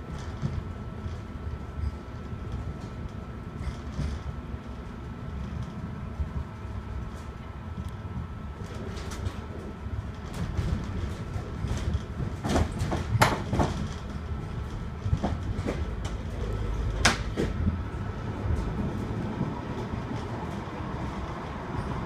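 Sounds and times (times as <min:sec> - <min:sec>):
tram low rumble: 0:00.0 - 0:22.0.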